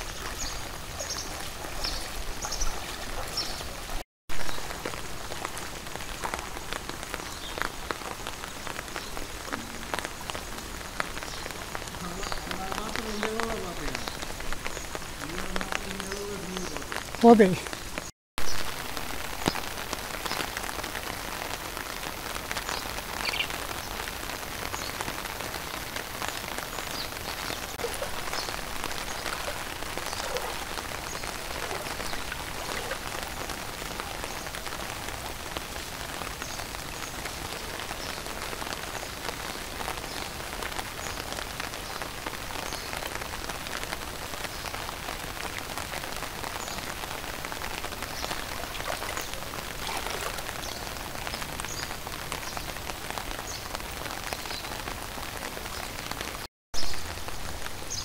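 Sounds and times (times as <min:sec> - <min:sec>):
rain pattering on water: 0:00.0 - 0:58.0.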